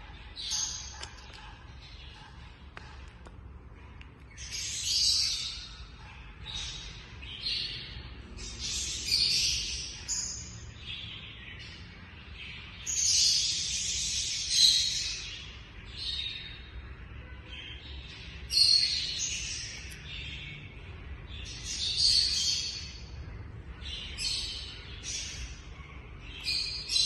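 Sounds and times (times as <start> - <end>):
parrots chirping and chattering: 0.0 - 27.0.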